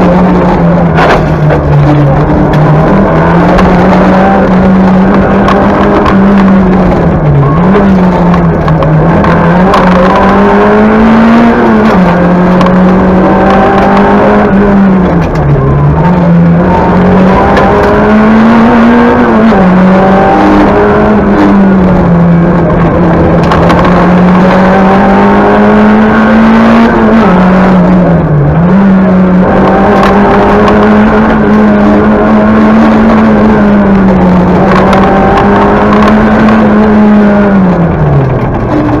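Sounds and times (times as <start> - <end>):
rally car engine running hard: 0.0 - 39.0.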